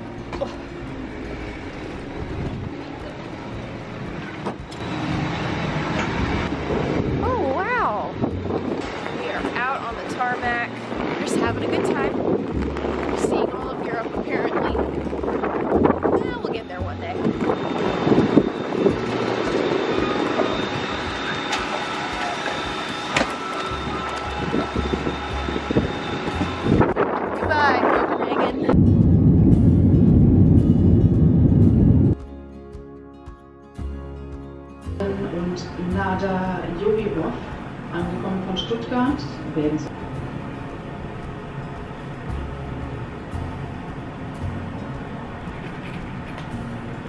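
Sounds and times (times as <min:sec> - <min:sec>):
airport machinery rumble and hum: 0:00.0 - 0:32.2, 0:35.0 - 0:47.0
jet aircraft whine and rush: 0:00.2 - 0:32.2, 0:36.8 - 0:47.0.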